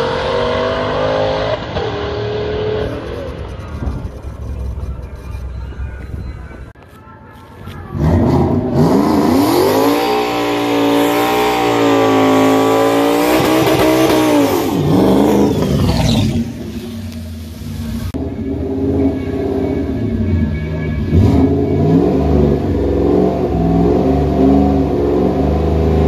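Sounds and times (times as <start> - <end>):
car engine revving: 0.0 - 6.7, 7.9 - 26.0.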